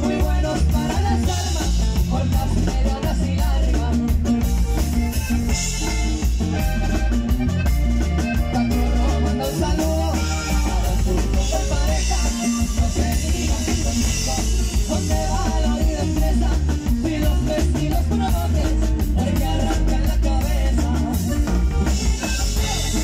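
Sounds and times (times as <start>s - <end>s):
button accordion: 0.0s - 23.0s
drum kit: 0.0s - 23.0s
electric bass: 0.0s - 23.0s
guitar: 0.0s - 23.0s.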